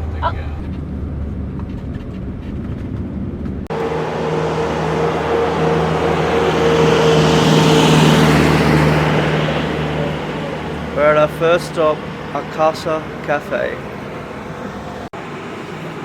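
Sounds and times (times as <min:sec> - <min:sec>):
road noise: 0:00.0 - 0:16.0
vehicle engine running: 0:00.0 - 0:16.0.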